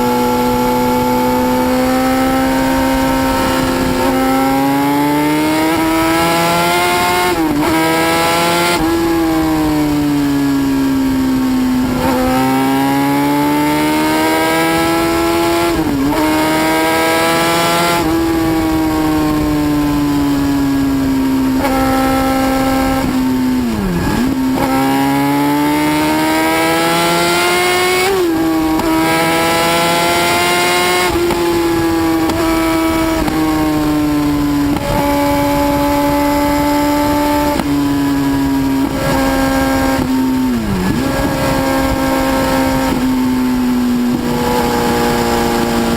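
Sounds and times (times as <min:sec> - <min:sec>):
motorcycle engine revving high: 0:00.0 - 0:45.9.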